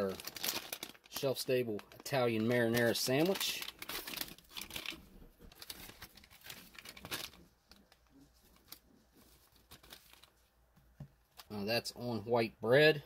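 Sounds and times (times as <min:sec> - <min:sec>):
crinkling plastic pouch: 0:00.0 - 0:10.5.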